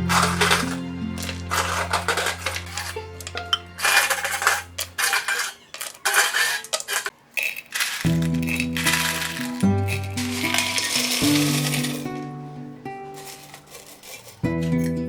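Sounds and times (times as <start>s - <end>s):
background music: 0.0s - 6.6s, 7.4s - 15.0s
hard objects clinking together: 0.0s - 12.3s, 13.1s - 15.0s.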